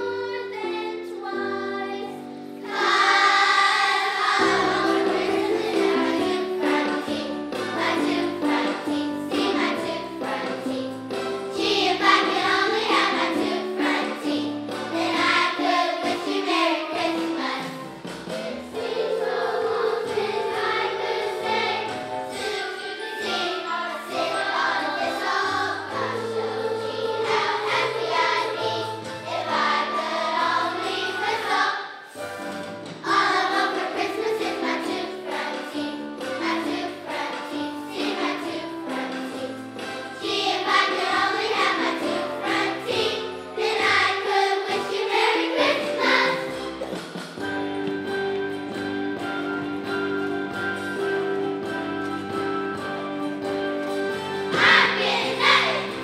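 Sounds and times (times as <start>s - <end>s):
children's choir singing: 0.0s - 48.8s, 49.6s - 56.0s
instrumental accompaniment: 0.0s - 56.0s.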